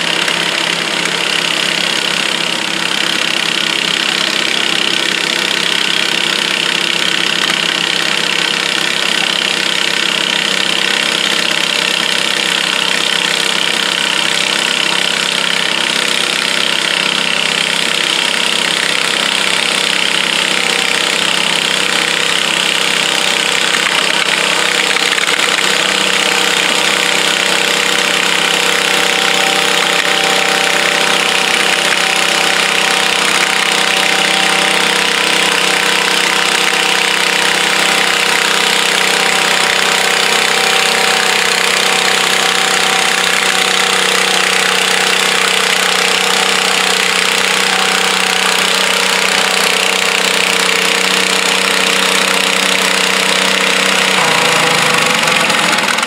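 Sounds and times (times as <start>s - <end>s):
small tractor engines idling: 0.0s - 56.0s.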